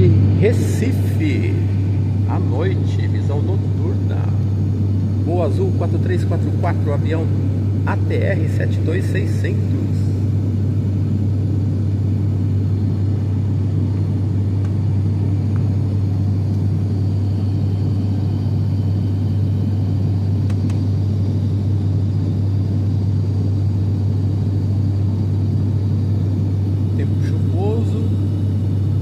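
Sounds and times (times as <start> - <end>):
engine and airflow rumble: 0.0 - 29.0
propeller hum: 0.0 - 29.0.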